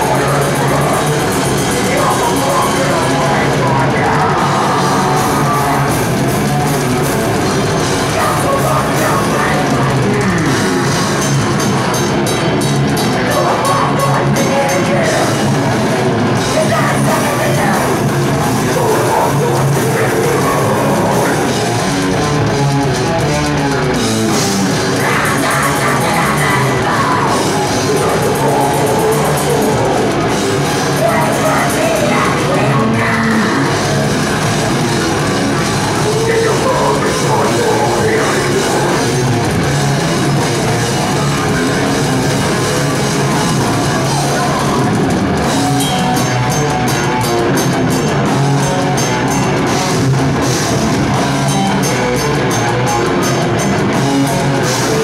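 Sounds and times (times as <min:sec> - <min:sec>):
heavy metal band playing live: 0:00.0 - 0:55.0.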